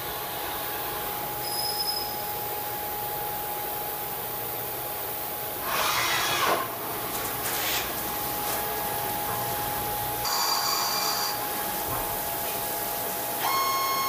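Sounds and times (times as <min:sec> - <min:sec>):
machining center whine: 0:00.0 - 0:14.0.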